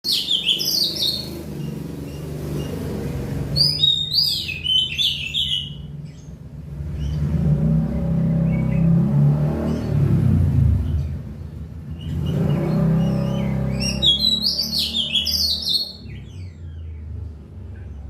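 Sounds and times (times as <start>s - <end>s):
bird warbling song: 0.0s - 10.2s, 10.8s - 18.0s
low engine hum: 0.1s - 18.0s.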